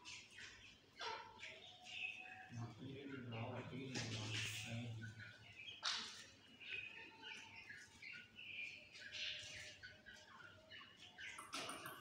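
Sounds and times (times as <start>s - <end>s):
young partridges chirping: 0.0s - 12.0s.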